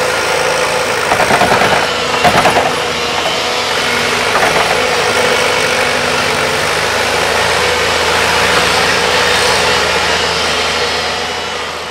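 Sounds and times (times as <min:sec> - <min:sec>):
excavator diesel engine running: 0:00.0 - 0:11.9.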